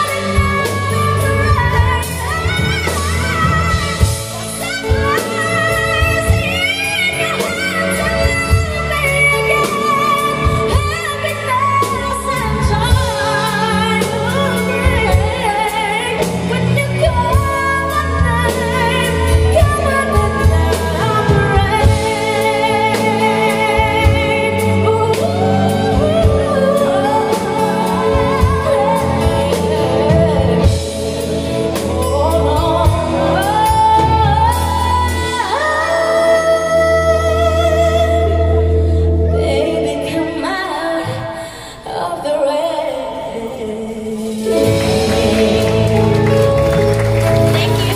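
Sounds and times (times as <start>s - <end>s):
bass: 0.0s - 41.5s, 44.2s - 47.9s
drums: 0.0s - 47.9s
woman singing a ballad: 0.0s - 47.9s.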